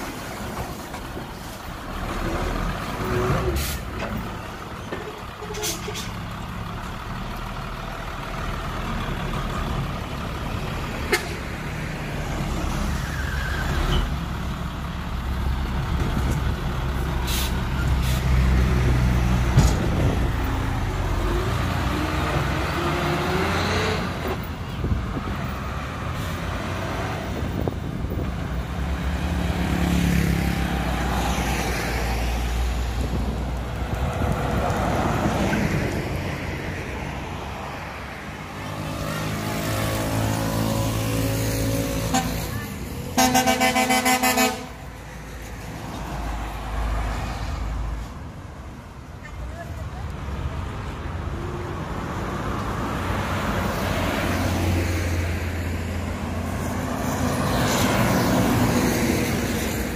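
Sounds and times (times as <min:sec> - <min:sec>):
passing road traffic: 0:00.0 - 0:59.9.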